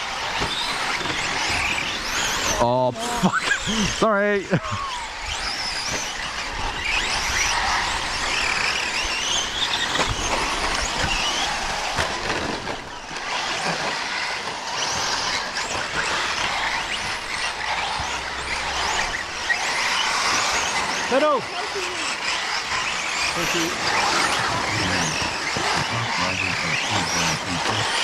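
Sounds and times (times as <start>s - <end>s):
rc truck motors whining: 0.0s - 28.0s.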